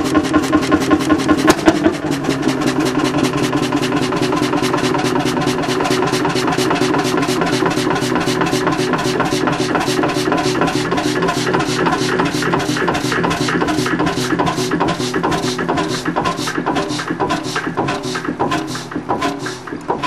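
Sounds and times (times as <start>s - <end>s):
engine exhaust beating: 0.0s - 20.0s.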